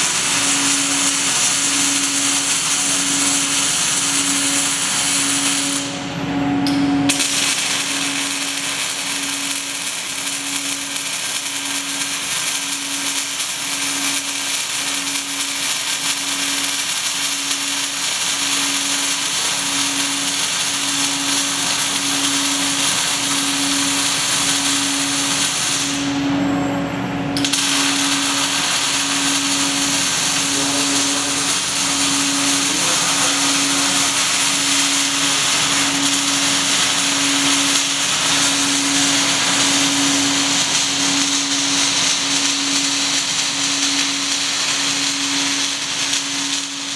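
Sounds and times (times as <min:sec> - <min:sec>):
welding arc crackling and hissing: 0:00.0 - 0:06.1, 0:07.1 - 0:26.4, 0:27.2 - 0:46.9.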